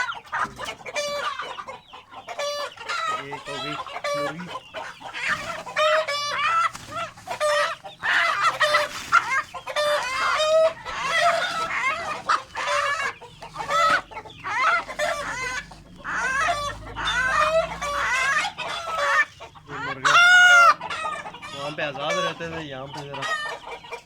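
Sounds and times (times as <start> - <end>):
chickens clucking and squawking: 0.0 - 24.0.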